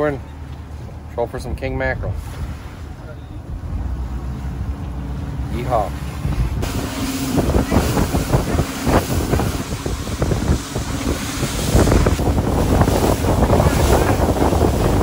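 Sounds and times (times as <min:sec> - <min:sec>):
water rushing and spraying: 0:00.0 - 0:15.0
wind buffeting microphone: 0:01.9 - 0:15.0.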